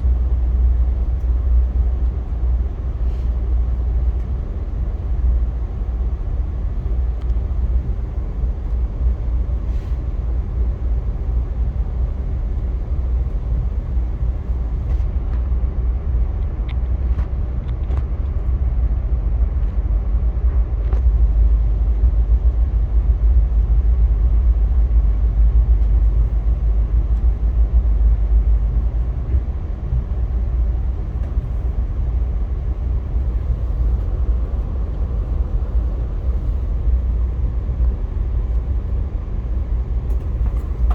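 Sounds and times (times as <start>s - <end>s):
passenger train rumbling: 0.0s - 40.9s.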